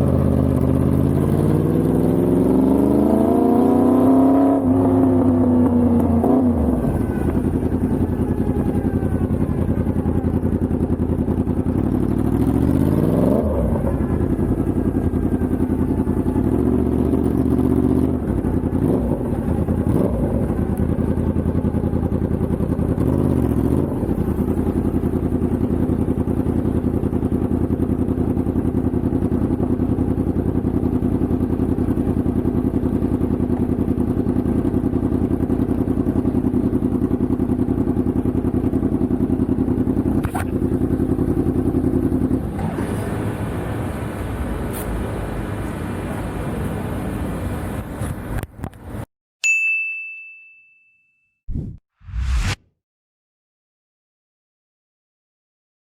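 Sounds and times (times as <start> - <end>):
motorcycle engine running: 0.0 - 48.4.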